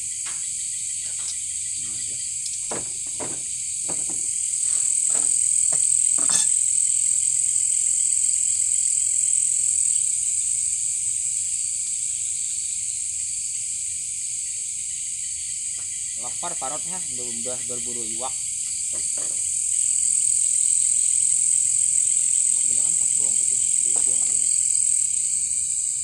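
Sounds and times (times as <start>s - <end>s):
insects shrill hum: 0.0s - 26.0s.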